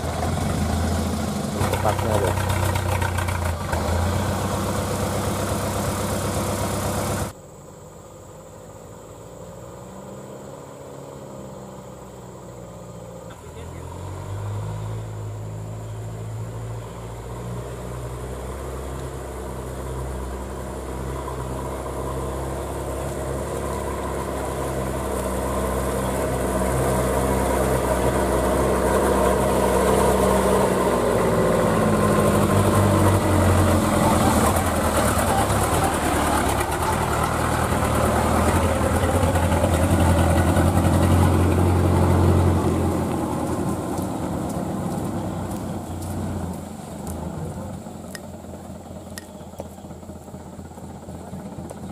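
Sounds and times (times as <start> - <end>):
truck diesel engine passing: 0.0 - 51.9.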